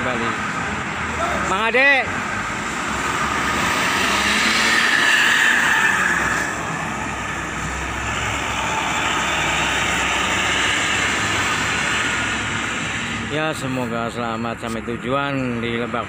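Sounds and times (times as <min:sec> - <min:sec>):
bus pulling away: 0:00.0 - 0:13.9.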